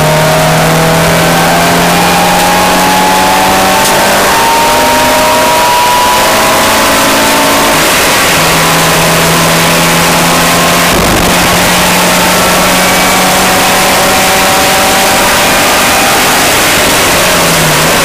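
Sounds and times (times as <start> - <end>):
car engine accelerating hard: 0.0 - 18.0
wind and road noise: 0.0 - 18.0.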